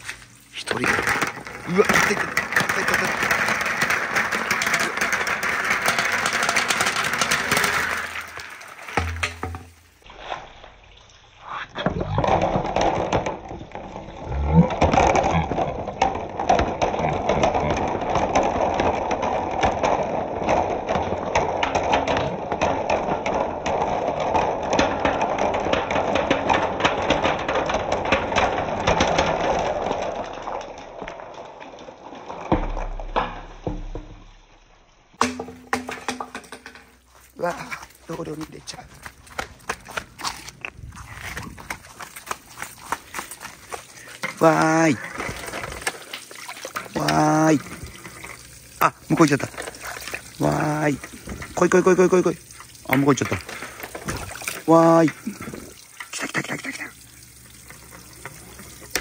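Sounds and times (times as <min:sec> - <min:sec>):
marbles rolling on wooden run: 0:00.6 - 0:10.0, 0:11.9 - 0:34.5, 0:35.2 - 0:59.0.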